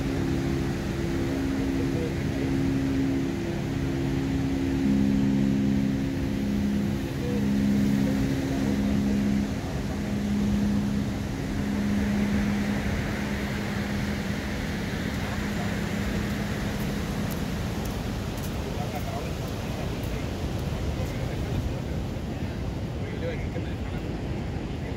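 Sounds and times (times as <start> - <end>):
continuous rushing noise: 0.0 - 24.9
mechanical hum of low tones: 0.0 - 24.9.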